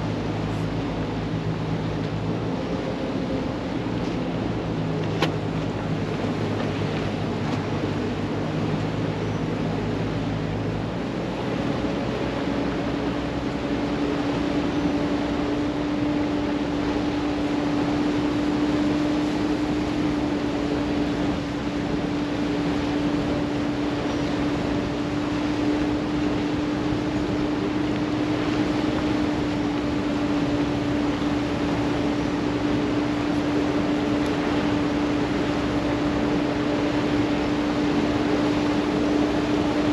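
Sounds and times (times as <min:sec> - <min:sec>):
boat engine running: 0:00.0 - 0:39.9
rush of water and wind: 0:00.0 - 0:39.9.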